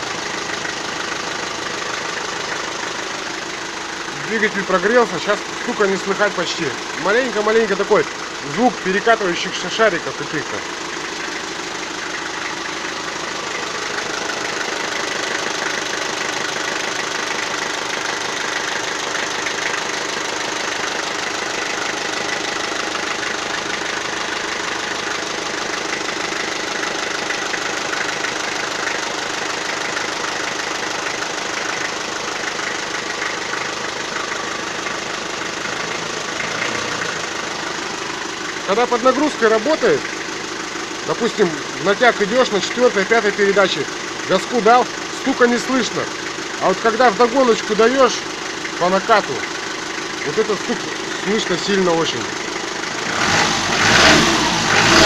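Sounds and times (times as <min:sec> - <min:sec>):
diesel engine idling: 0:00.0 - 0:55.0
faint engine rattle: 0:00.0 - 0:55.0.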